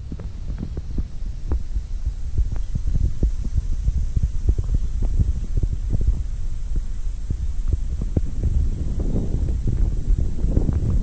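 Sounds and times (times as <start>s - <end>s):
wind buffeting a microphone: 0.0s - 11.0s.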